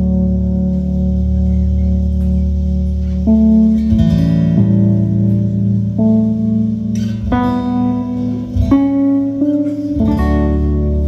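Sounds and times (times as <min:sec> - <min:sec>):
acoustic guitar: 0:00.0 - 0:11.0
keyboard chords: 0:00.0 - 0:11.0.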